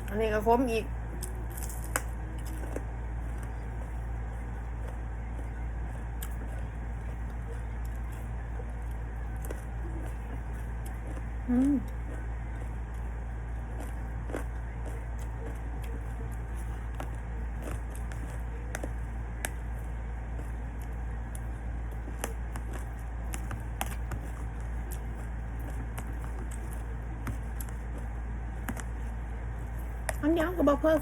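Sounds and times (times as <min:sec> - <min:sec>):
steady low hum: 0:00.0 - 0:31.0
person chewing: 0:01.2 - 0:30.2.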